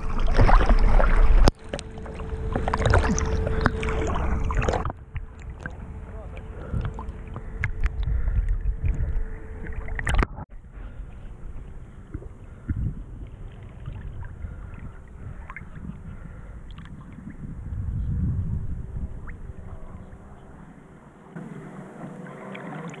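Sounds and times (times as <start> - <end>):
river water lapping and splashing: 0.0 - 17.8, 19.0 - 23.0
wind rumbling on microphone: 0.0 - 21.8.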